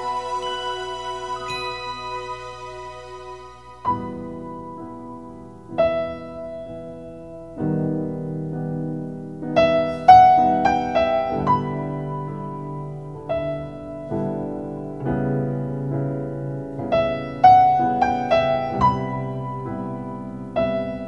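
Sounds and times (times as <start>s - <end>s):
slow piano chords: 0.0s - 21.0s.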